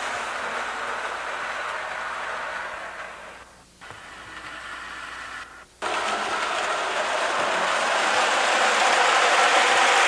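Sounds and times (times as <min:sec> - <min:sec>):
toy train running: 0:00.0 - 0:10.0.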